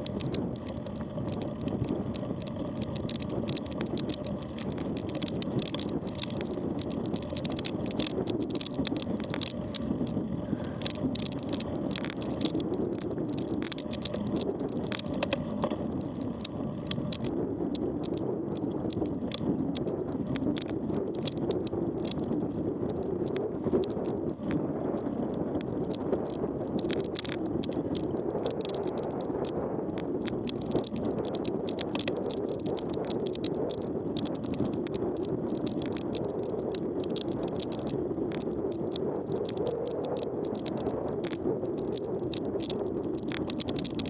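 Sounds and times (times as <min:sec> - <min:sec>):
bike and stone rattles: 0:00.0 - 0:44.0
bike tyres rumbling on gravel: 0:00.0 - 0:44.0
wind on the microphone: 0:00.0 - 0:44.0.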